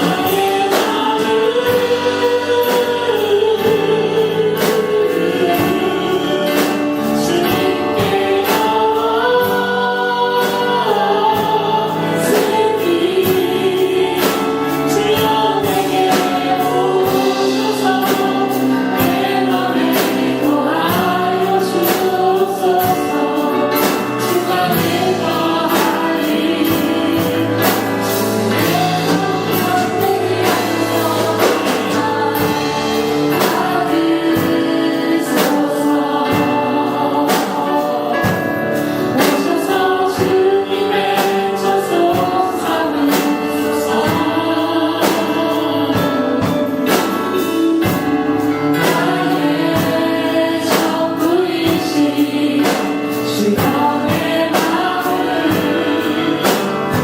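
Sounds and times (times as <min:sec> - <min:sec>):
band accompaniment with beat: 0:00.0 - 0:57.0
choir singing gospel song: 0:00.0 - 0:57.0.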